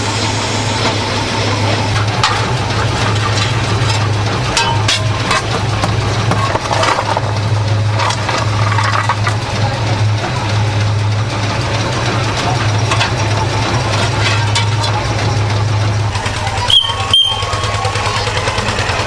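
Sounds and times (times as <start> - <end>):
engine humming: 0.0 - 19.0
sharp clicks and knocks: 1.9 - 17.5.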